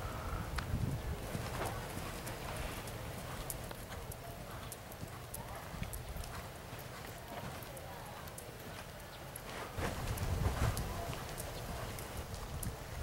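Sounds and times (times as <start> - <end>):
horse hoofbeats on sand: 0.8 - 13.0.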